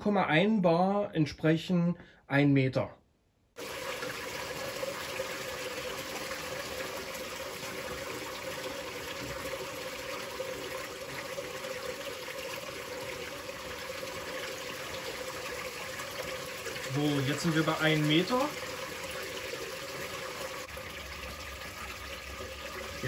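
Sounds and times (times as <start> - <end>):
pump hum: 3.6 - 23.0.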